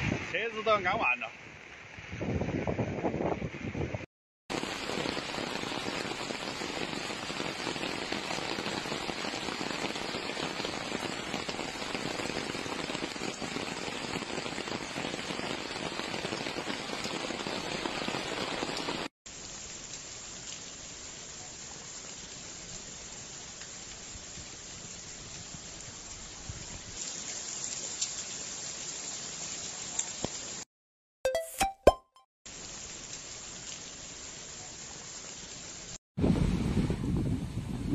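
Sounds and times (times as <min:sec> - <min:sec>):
heavy rain: 0:04.5 - 0:30.7, 0:32.5 - 0:37.7.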